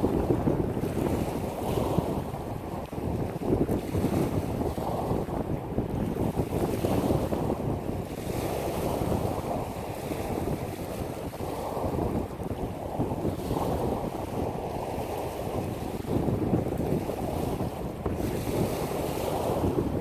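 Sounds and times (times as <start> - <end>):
waves washing onto pebble beach: 0.0 - 20.0
wind rumbling on microphone: 0.0 - 20.0.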